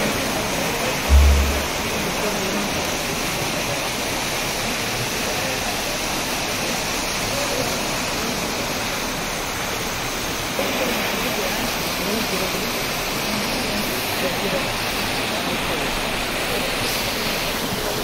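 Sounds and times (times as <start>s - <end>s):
floodwater rushing through drain: 0.0s - 18.0s.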